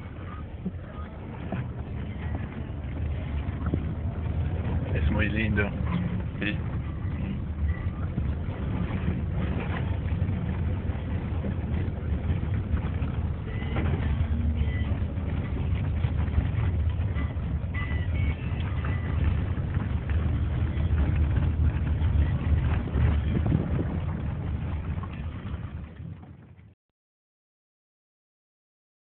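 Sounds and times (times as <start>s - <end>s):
car engine and road rumble: 0.0s - 26.8s.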